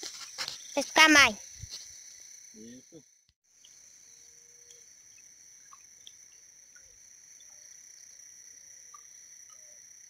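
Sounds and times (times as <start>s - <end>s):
crickets trilling: 0.0s - 10.0s
insect chirps and ticks: 0.0s - 10.0s.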